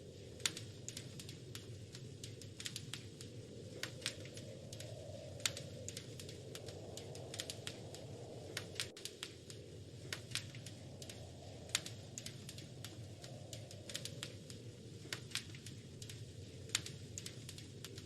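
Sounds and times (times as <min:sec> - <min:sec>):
low rush of flames: 0:00.0 - 0:18.0
wood fire crackling and popping: 0:00.0 - 0:18.0.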